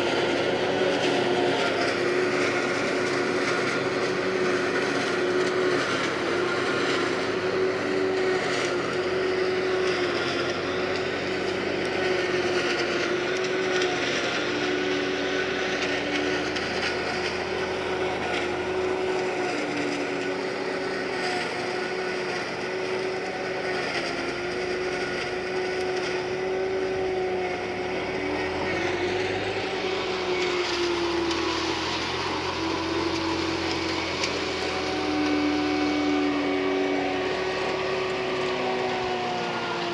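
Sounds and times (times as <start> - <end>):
forage harvester chopping maize: 0.0 - 39.9
tractor engine drone: 0.0 - 39.9.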